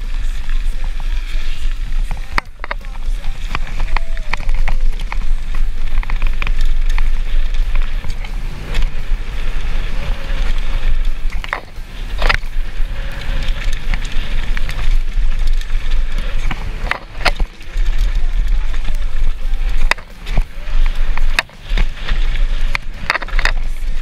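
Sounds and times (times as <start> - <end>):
bike clicks and rattles: 0.0 - 24.0
tyre noise: 0.0 - 24.0
wind rumble on microphone: 0.0 - 24.0.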